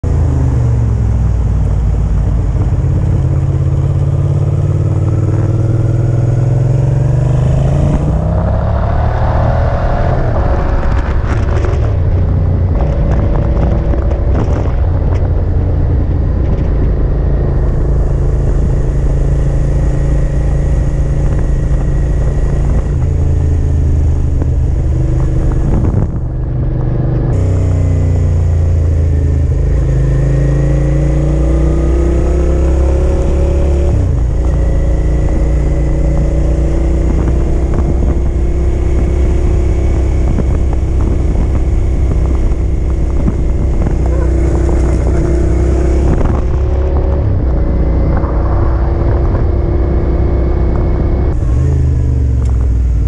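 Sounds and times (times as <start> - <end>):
motorcycle engine accelerating: 0.0 - 53.0
wind rushing over microphone: 0.0 - 53.0.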